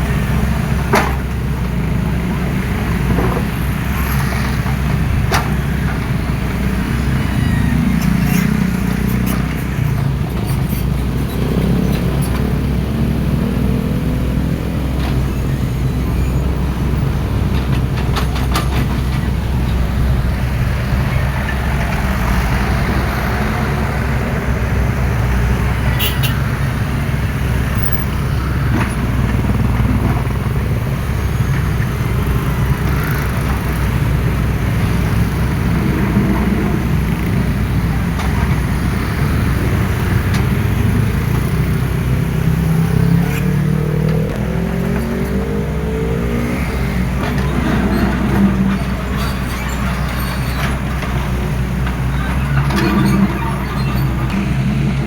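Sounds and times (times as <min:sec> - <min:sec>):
excavator diesel engines working: 0:00.0 - 0:55.0.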